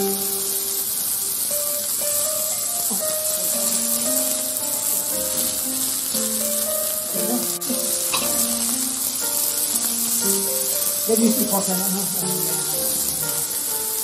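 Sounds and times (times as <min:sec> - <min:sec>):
background music: 0:00.0 - 0:14.0
meat sizzling on a grill plate: 0:00.0 - 0:14.0.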